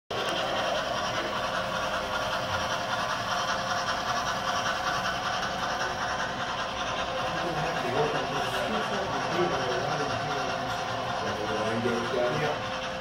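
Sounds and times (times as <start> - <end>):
model train running on track: 0.1 - 13.0.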